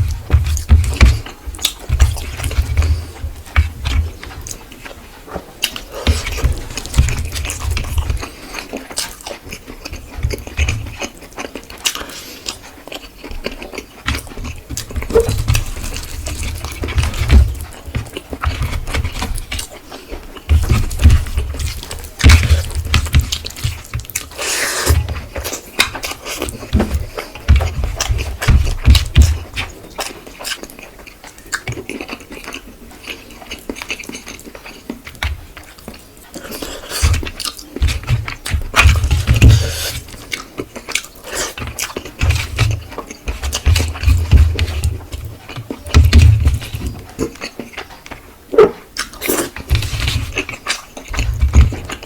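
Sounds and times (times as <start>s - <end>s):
chewing and lip-smacking: 0.0s - 52.0s.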